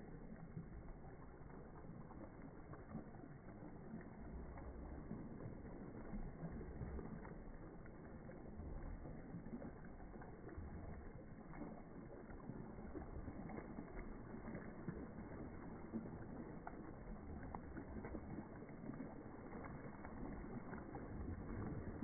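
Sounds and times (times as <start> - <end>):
dog swimming splashes: 0.0 - 22.0
pool water sloshing: 0.0 - 22.0.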